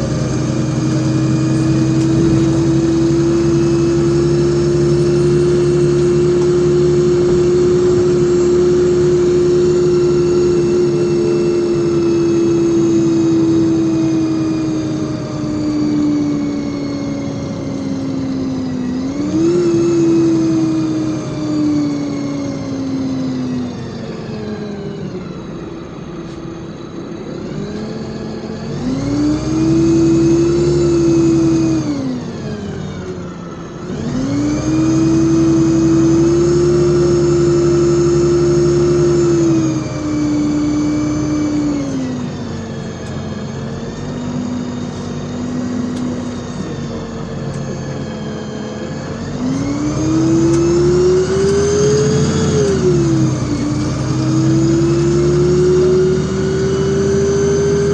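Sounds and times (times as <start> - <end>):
bus engine accelerating with whine: 0.0 - 57.9.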